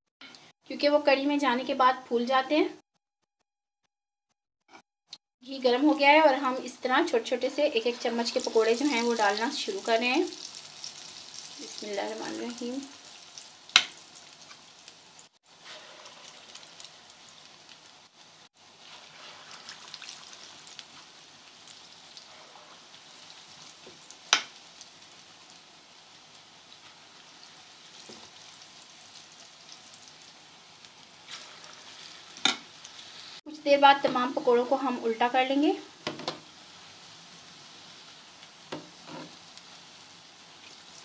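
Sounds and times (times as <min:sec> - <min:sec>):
batter sizzling in hot oil: 0:05.4 - 0:41.0.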